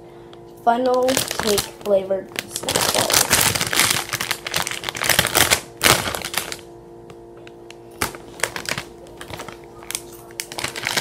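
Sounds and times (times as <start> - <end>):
faint steady hum: 0.0 - 11.0
snack bag crinkling: 0.8 - 6.7, 8.0 - 11.0.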